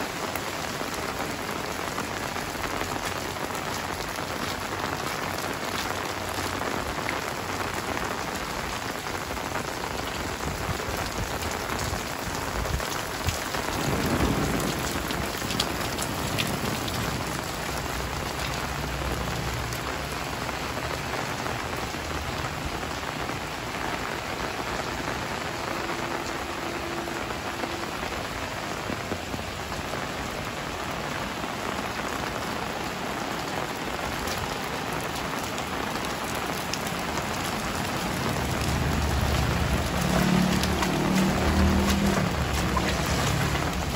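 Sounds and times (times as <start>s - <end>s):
heavy rain on roofs: 0.0s - 43.9s
water dripping from eaves: 0.0s - 43.9s.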